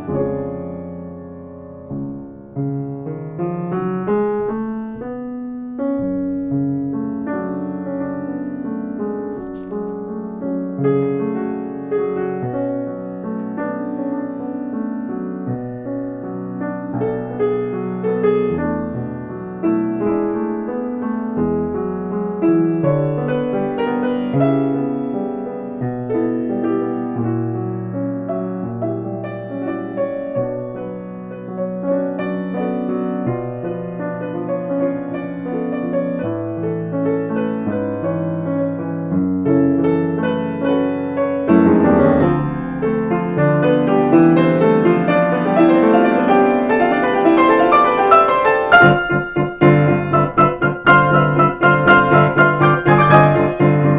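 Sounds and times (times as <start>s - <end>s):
slow piano music: 0.0s - 53.9s.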